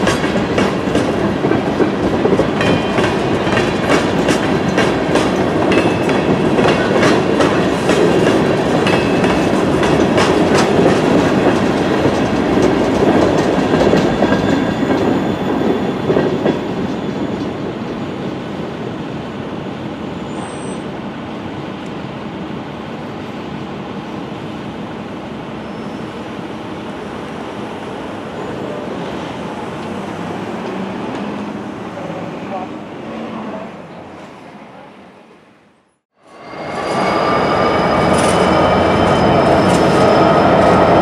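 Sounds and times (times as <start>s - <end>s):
freight train rumble: 0.0s - 35.6s, 36.2s - 41.0s.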